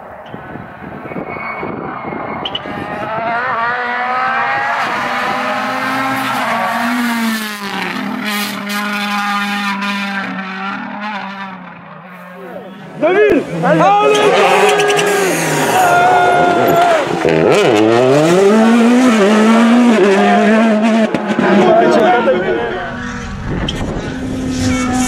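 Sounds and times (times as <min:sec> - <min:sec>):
rally car engine passing: 0:00.5 - 0:25.0.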